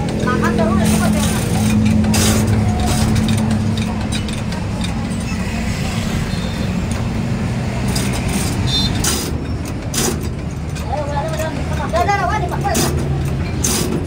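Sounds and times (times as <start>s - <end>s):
low mechanical drone: 0.0s - 14.0s.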